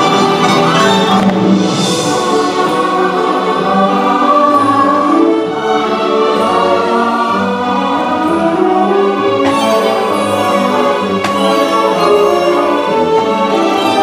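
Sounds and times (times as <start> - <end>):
choir singing long notes: 0.0 - 14.0
orchestral music: 0.0 - 14.0.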